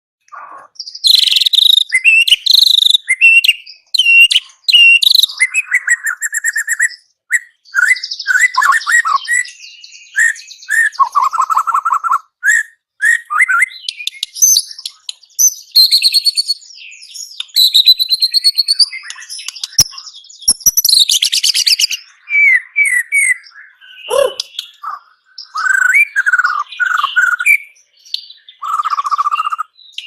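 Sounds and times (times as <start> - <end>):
songbird singing whistled phrases: 0.2 - 30.0.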